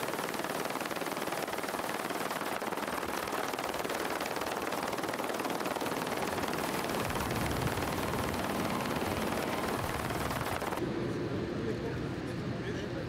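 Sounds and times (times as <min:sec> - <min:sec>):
helicopter rotor chopping: 0:00.0 - 0:10.8.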